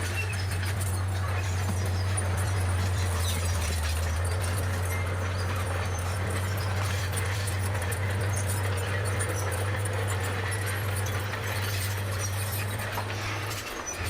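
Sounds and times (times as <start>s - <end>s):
bulldozer diesel engine running: 0.0s - 14.0s
light clatter of tracks: 0.0s - 14.0s.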